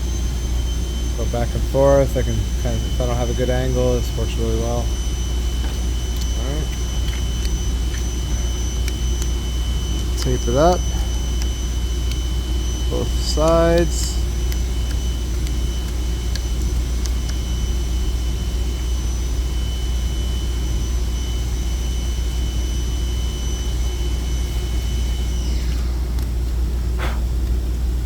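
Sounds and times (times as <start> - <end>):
electric motor whine winding down: 0.0 - 28.0
steady low hum: 0.0 - 28.0.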